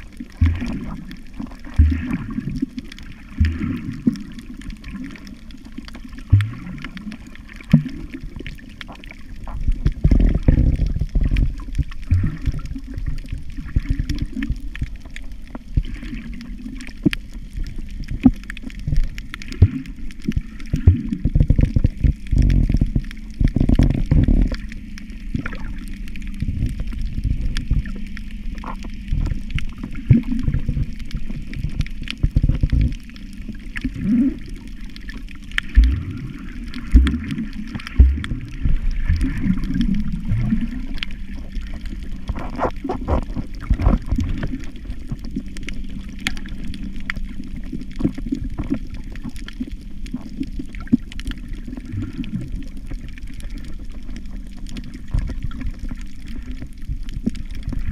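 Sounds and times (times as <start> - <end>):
muffled underwater water surges: 0.0 - 57.9
sharp underwater clicks: 0.2 - 57.9.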